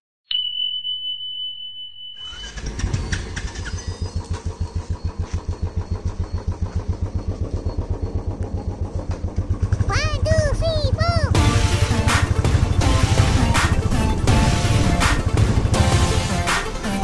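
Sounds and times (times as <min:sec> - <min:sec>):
motorcycle engine idling: 0:02.3 - 0:16.8.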